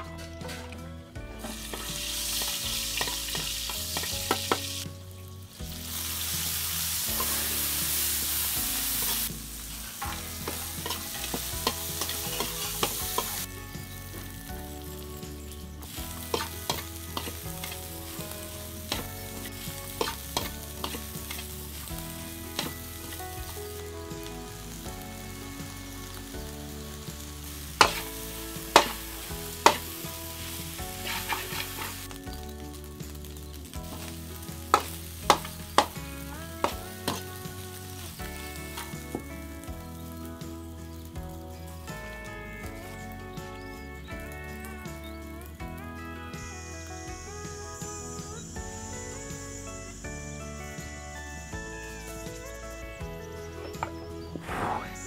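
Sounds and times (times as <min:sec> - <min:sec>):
rice frying hiss: 0:01.2 - 0:55.0
shallots sizzling in hot oil: 0:01.2 - 0:55.0.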